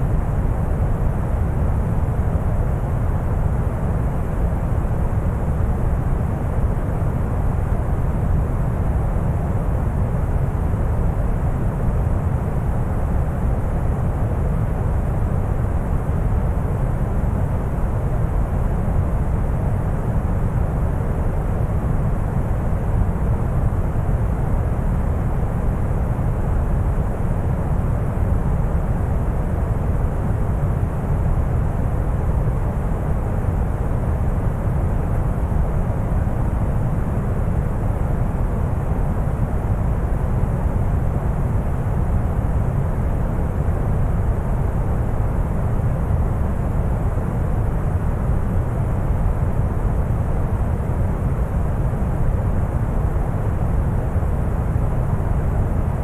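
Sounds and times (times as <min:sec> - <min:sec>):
deep brown noise rumble: 0:00.0 - 0:56.0.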